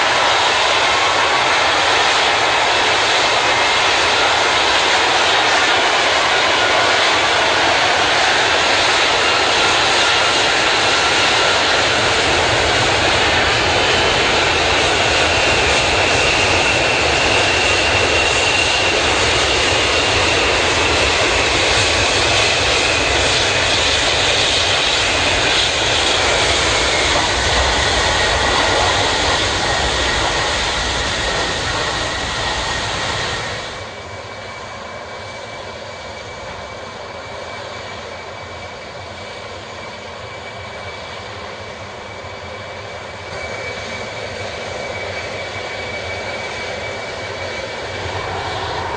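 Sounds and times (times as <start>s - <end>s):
jet engines roaring with whine: 0.0s - 48.9s.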